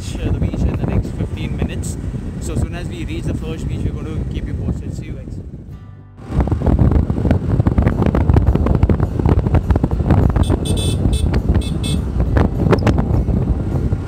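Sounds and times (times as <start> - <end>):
vehicle rumble: 0.0 - 14.0
wind buffeting microphone: 0.0 - 14.0.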